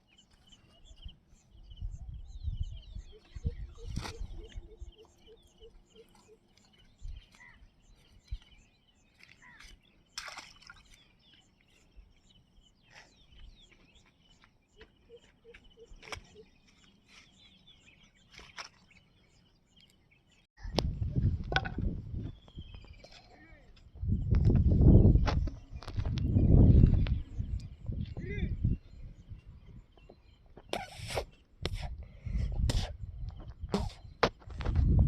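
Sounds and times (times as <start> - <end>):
small birds chirping: 0.0 - 20.8, 22.2 - 35.0.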